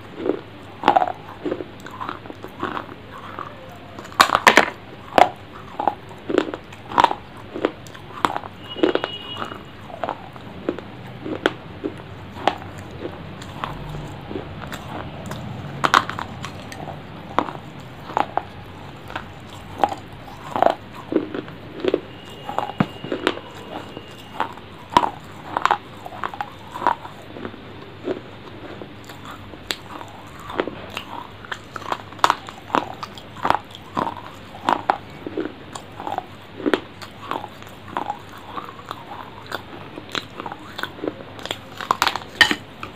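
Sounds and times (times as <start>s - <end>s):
wet chewing and lip smacks: 0.0s - 42.9s.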